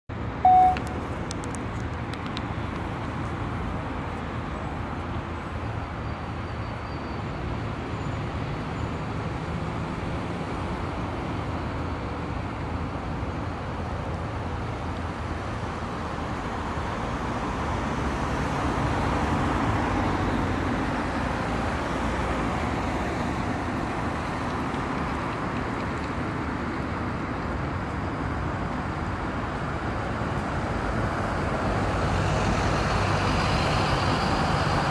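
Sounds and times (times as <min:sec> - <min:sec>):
road traffic: 0:00.1 - 0:34.9.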